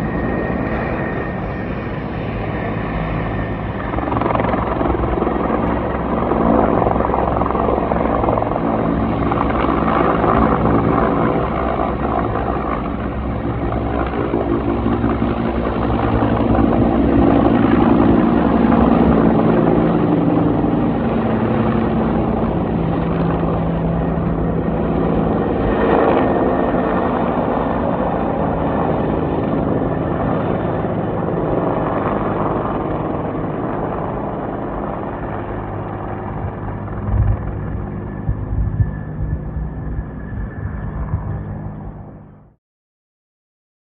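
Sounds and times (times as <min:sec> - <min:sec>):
helicopter engine and rotor drone: 0:00.0 - 0:42.6.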